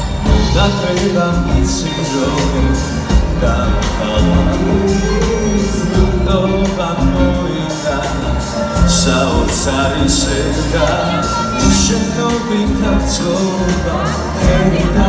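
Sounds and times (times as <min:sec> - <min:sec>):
live pop band with drums: 0:00.0 - 0:15.0
man and woman singing duet: 0:00.0 - 0:15.0.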